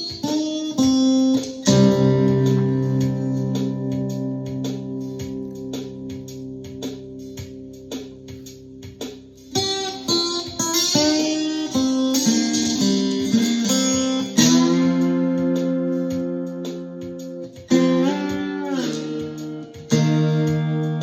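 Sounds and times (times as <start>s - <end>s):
guitar chord ringing: 0.0s - 21.0s
slide guitar notes: 0.0s - 21.0s.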